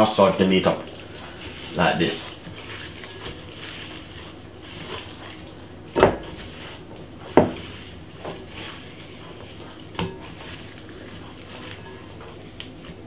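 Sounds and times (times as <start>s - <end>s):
hand squeezing raw meat: 0.4s - 13.0s.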